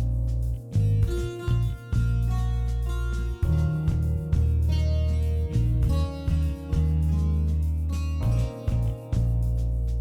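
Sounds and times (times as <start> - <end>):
loud bass line: 0.0 - 10.0.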